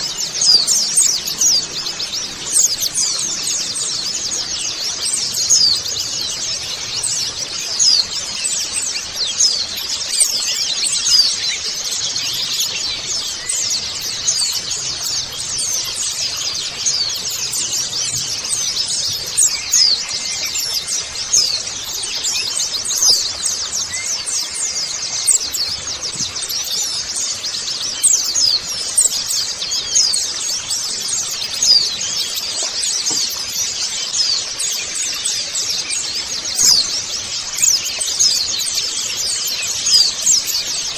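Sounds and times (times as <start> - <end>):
flock of birds twittering: 0.0 - 40.9.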